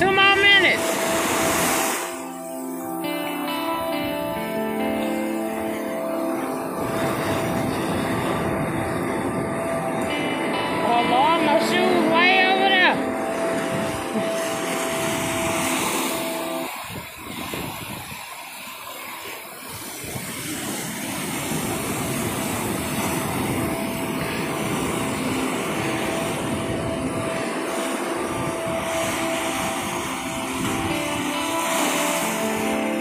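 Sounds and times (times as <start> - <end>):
ocean surf breaking on rocks: 0.0 - 33.0.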